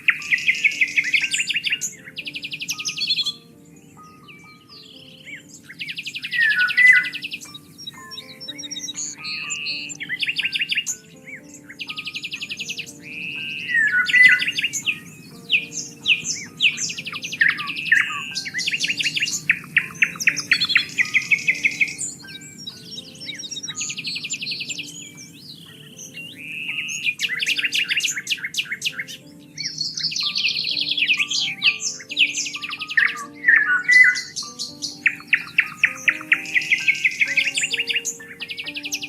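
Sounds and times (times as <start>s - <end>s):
birds chirping and singing: 0.0s - 39.0s.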